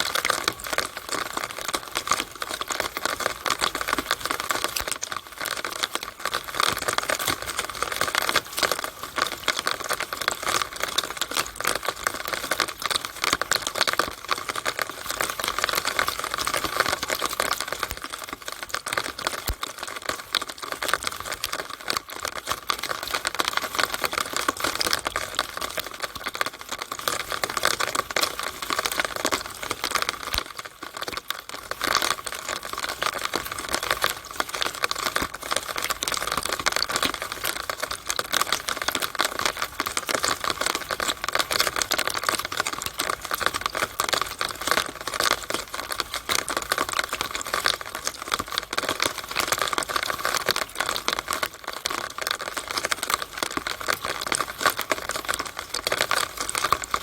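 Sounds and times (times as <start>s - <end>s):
rainwater dripping and splashing: 0.0s - 57.0s.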